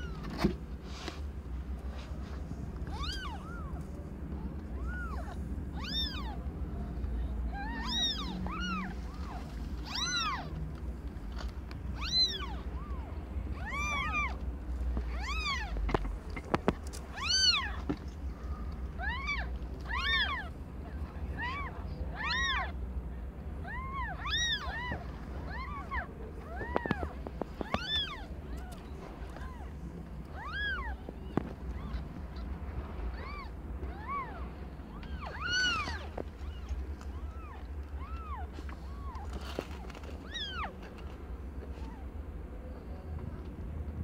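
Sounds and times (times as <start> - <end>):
kittens mewing: 1.4 - 42.2.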